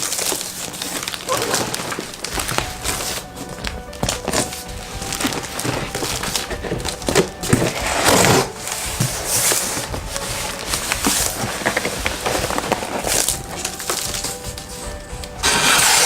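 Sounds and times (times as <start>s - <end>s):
cardboard and styrofoam rustling: 0.0s - 16.0s
packaging knocks: 0.0s - 16.0s.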